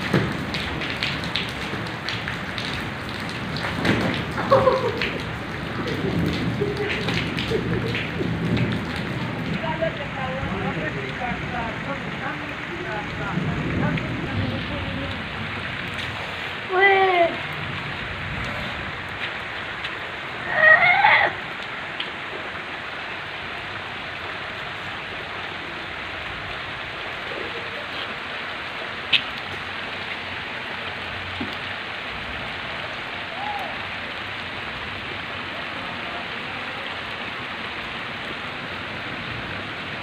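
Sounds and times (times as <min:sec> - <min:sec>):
heavy rain on flooded ground: 0:00.0 - 0:40.0.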